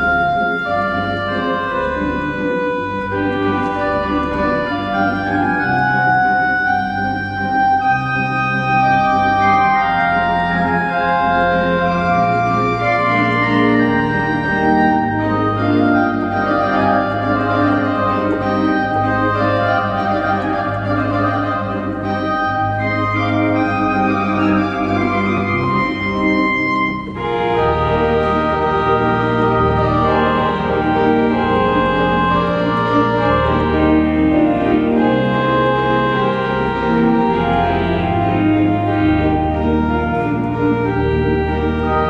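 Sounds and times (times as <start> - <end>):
organ chords: 0.0 - 42.0.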